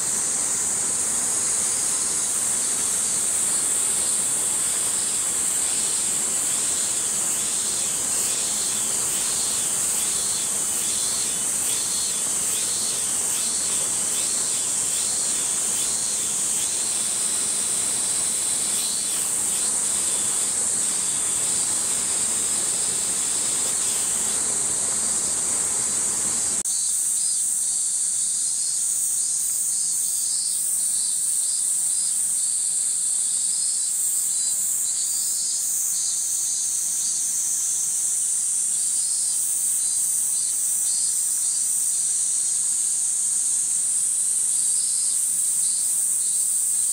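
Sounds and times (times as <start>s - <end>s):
cicadas droning: 0.0s - 46.9s
pulsing cicada call: 0.0s - 46.9s.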